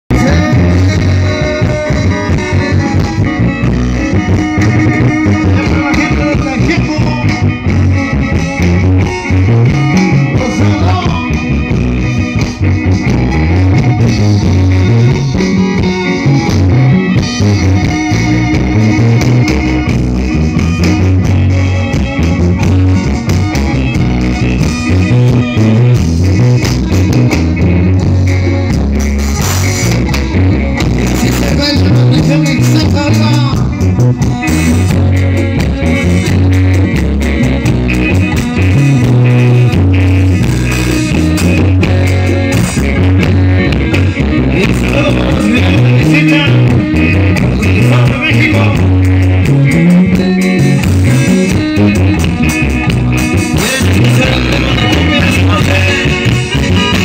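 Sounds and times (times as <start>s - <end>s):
guitar: 0.0s - 57.0s
live band playing dance music: 0.1s - 57.0s
pulsing bass beat: 0.1s - 57.0s.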